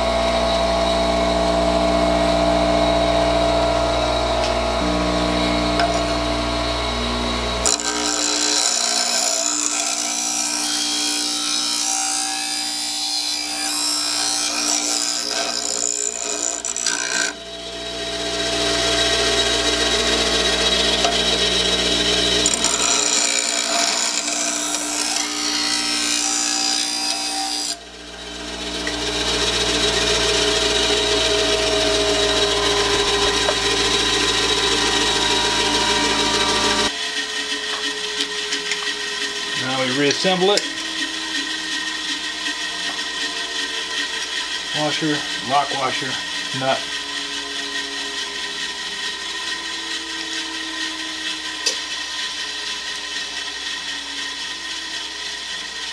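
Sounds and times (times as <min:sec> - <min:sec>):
bench grinder motor hum: 0:00.0 - 0:55.9
steel grinding against wheel: 0:07.6 - 0:17.6, 0:18.2 - 0:27.8, 0:28.8 - 0:55.9.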